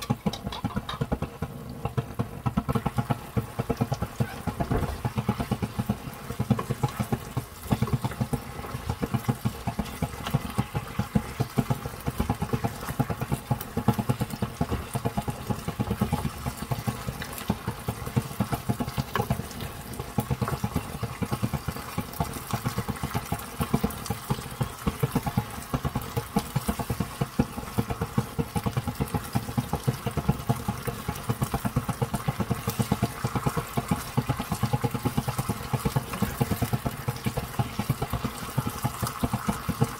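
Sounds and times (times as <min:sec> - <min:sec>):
sauce bubbling in frying pan: 0:00.0 - 0:39.9.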